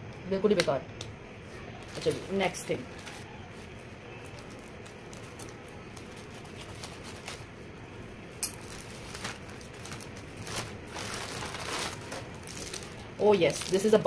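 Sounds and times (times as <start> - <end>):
plastic mailer and bubble wrap crinkling: 1.4 - 14.0.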